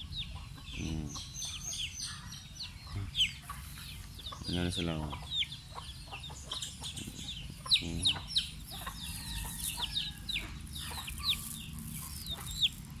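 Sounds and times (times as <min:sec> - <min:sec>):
chickens chirping: 0:00.0 - 0:13.0
chickens clucking: 0:00.0 - 0:13.0.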